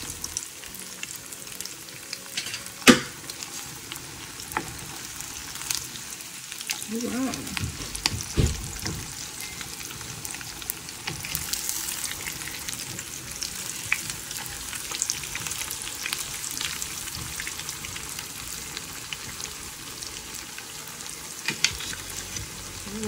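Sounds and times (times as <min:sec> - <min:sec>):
tofu sizzling in hot oil: 0:00.0 - 0:23.0.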